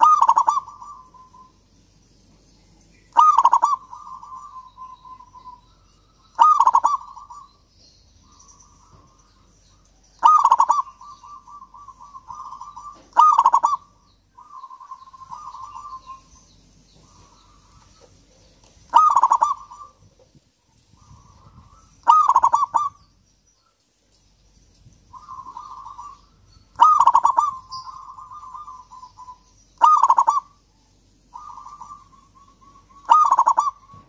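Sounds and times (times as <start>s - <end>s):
dove cooing: 0.0s - 1.6s, 3.1s - 7.6s, 8.2s - 18.2s, 18.9s - 20.1s, 20.9s - 23.0s, 25.1s - 30.6s, 31.3s - 34.0s.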